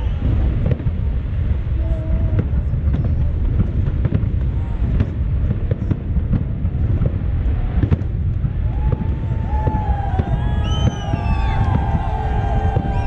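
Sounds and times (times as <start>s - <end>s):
fireworks booming: 0.0s - 13.0s
fireworks cracks and pops: 0.0s - 13.0s.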